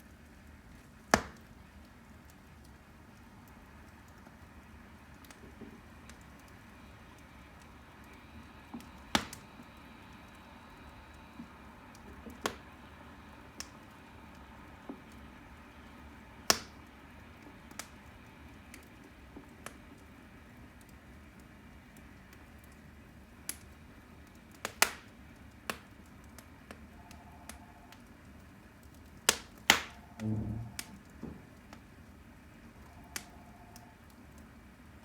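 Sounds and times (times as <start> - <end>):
fire hissing: 0.0 - 35.0
firewood crackling and popping: 0.0 - 35.0.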